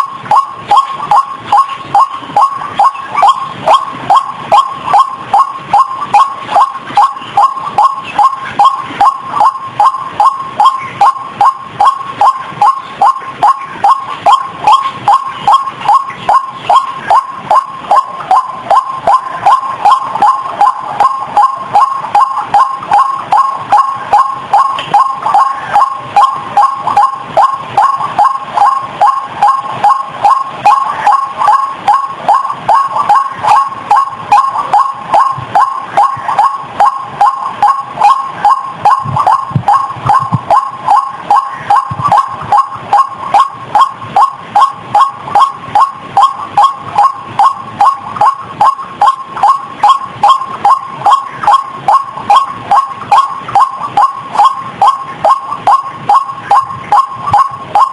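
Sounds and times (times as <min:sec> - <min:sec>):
waterhen calling: 0:00.0 - 0:55.8.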